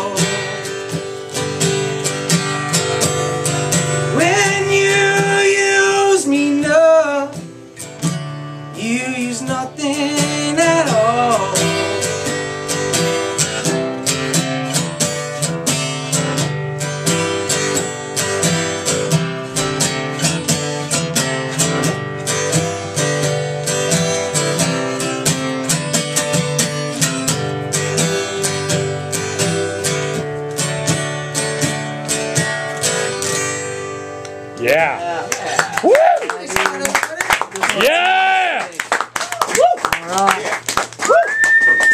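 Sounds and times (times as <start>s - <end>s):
acoustic guitar strummed: 0.0s - 35.8s.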